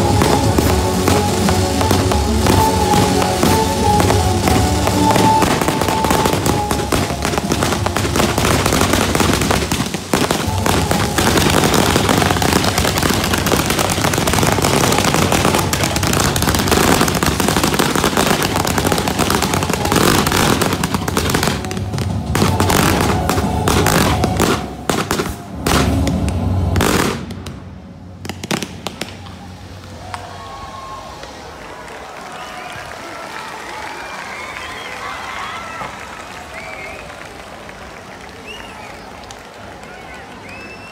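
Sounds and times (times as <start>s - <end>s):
faint music: 0.0s - 33.2s
fireworks crackling: 0.0s - 40.9s.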